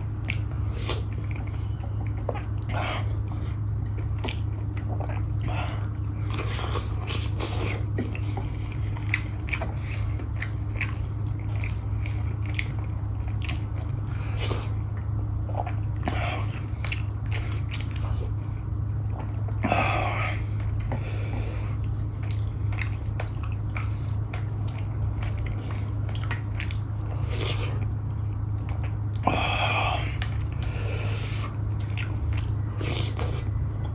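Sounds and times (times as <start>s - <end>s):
low hum: 0.0s - 33.9s
person chewing food: 0.0s - 33.9s.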